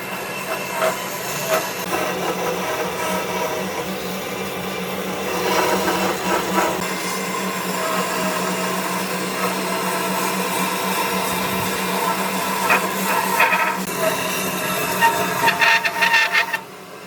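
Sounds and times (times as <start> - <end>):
electric power tool running: 0.0 - 17.0.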